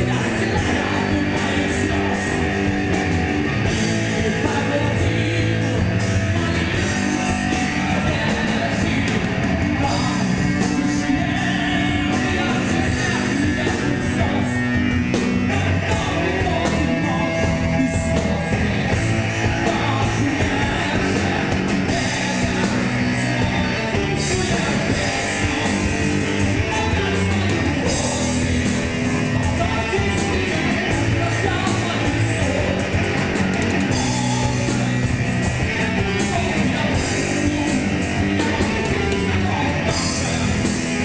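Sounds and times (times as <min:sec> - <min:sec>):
metal band playing: 0:00.0 - 0:41.0
person singing: 0:00.0 - 0:41.0.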